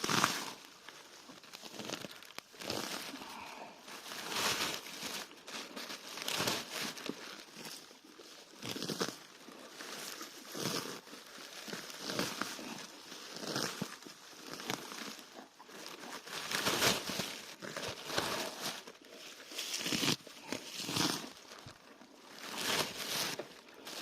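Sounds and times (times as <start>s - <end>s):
grass crunching and tearing: 0.0s - 24.0s.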